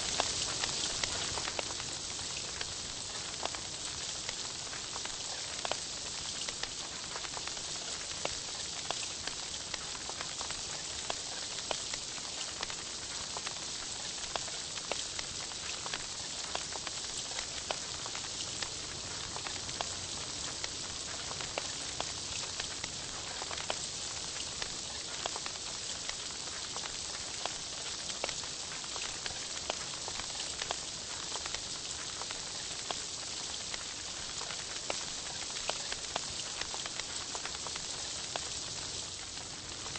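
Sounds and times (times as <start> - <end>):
meat sizzling on a grill: 0.0 - 39.9.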